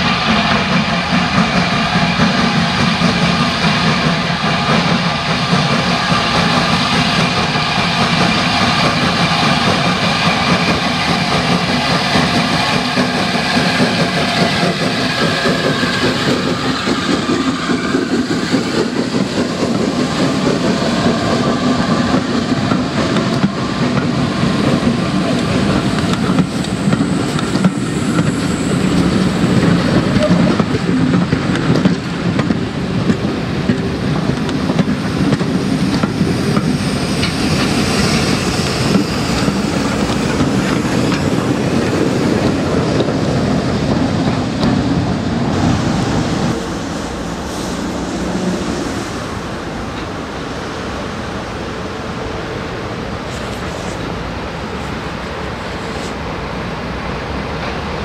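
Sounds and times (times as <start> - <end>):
steam locomotive passing: 0.0 - 58.0.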